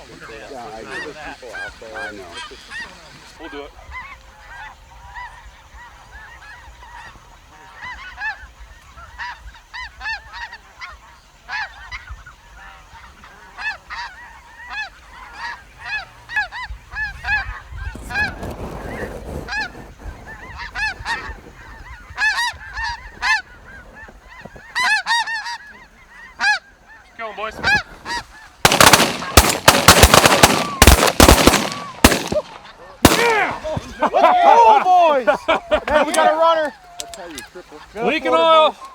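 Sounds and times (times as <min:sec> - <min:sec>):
geese honking: 0:00.0 - 0:18.3, 0:18.9 - 0:38.9.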